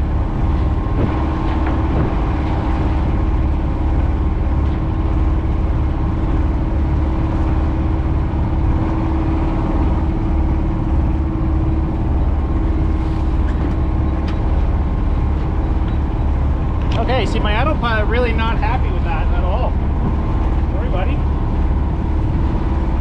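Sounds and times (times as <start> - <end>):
constant hum: 0.0 - 23.0
wind buffeting microphone: 0.0 - 23.0.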